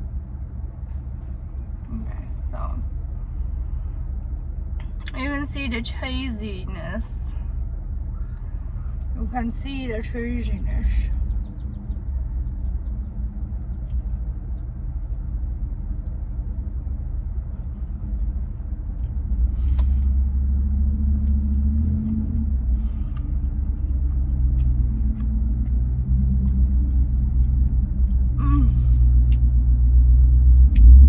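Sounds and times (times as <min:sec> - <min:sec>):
car engine rumbling inside cabin: 0:00.0 - 0:31.0.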